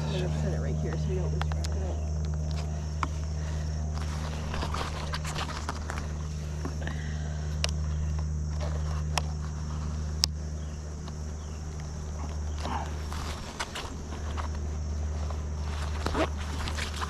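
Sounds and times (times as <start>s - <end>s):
bees humming: 0.0s - 17.0s.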